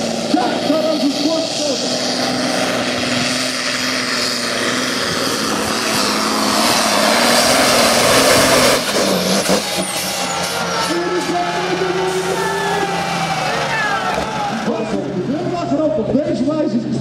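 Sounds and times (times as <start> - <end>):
tractor engine at full power: 0.0 - 17.0.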